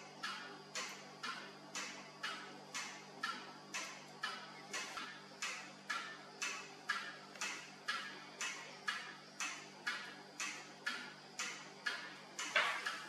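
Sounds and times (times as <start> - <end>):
steady sharp ticking: 0.1 - 13.0.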